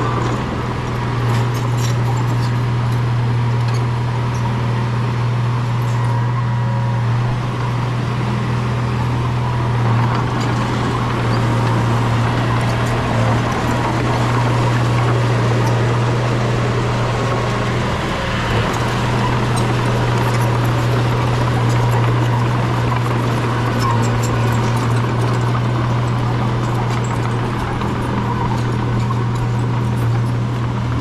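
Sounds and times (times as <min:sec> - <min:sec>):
bulldozer diesel engine droning: 0:00.0 - 0:31.0.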